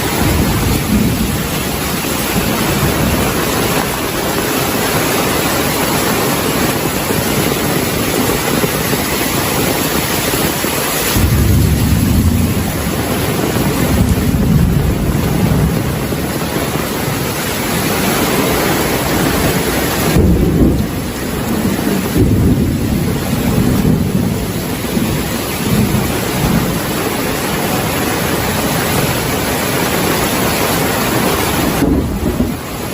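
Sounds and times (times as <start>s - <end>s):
heavy rain hissing: 0.0s - 32.9s
low rolling thunder: 0.0s - 32.9s.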